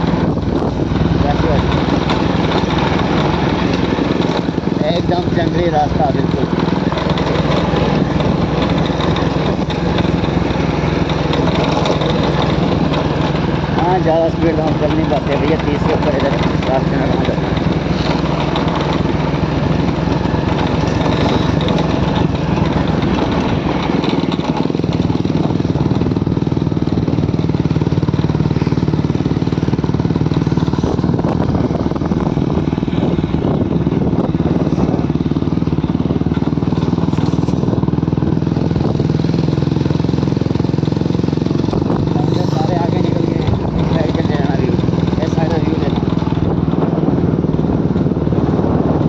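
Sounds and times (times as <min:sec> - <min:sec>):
constant rushing noise: 0:00.0 - 0:49.0
motorcycle engine running: 0:00.0 - 0:49.0.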